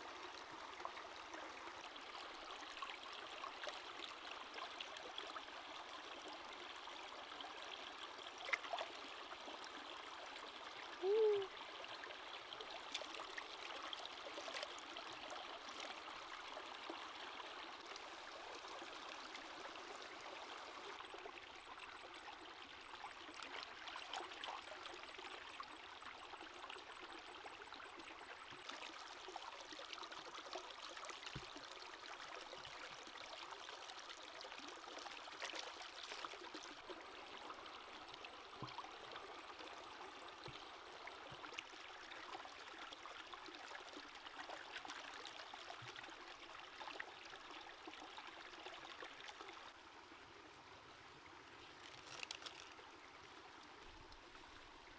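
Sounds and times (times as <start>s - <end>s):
stream running over rocks: 0.0s - 54.9s.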